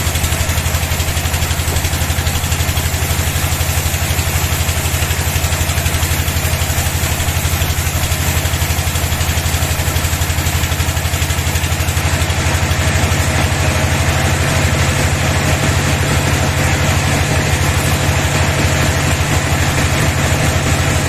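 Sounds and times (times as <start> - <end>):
bandsaw engine running: 0.0 - 21.0.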